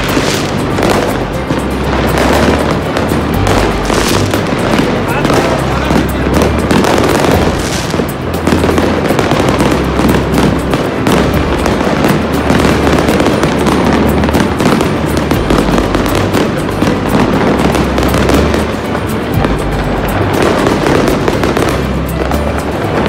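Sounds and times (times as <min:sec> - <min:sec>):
aerial firework shell bursting: 0:00.0 - 0:23.0
firecrackers crackling: 0:00.0 - 0:23.0.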